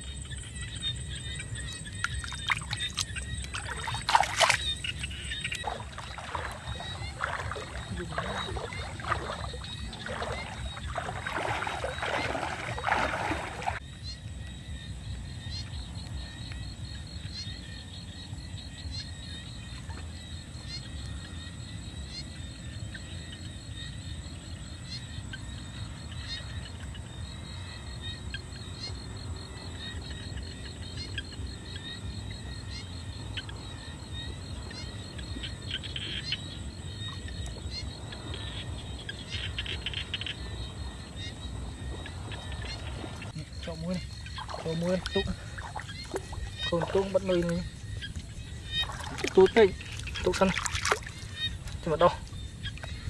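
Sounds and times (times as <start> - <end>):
night insects trilling: 0.0 - 53.0.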